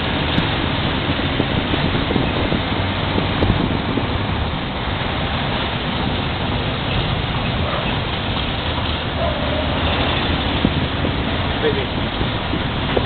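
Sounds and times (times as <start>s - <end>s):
road and wind noise: 0.0s - 13.0s
vehicle engine drone: 0.0s - 13.0s.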